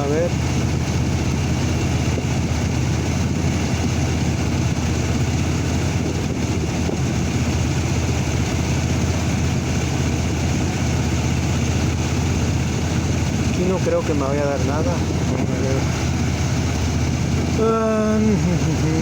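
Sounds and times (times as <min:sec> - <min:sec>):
pickup engine idling: 0:00.0 - 0:19.0.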